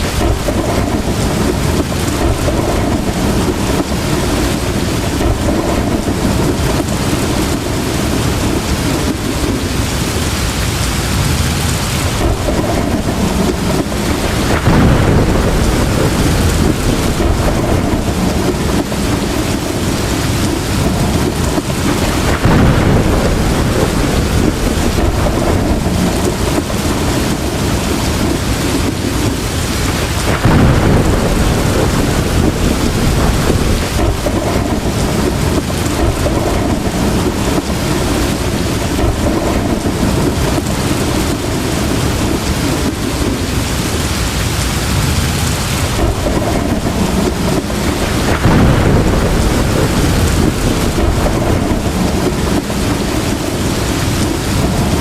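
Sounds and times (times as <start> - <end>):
heavy rain: 0.0 - 55.0
rolling thunder: 0.0 - 55.0.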